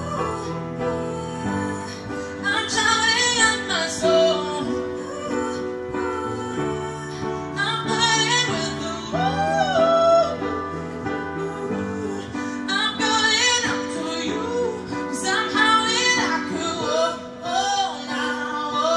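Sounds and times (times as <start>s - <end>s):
woman singing pop ballad: 0.0s - 18.9s.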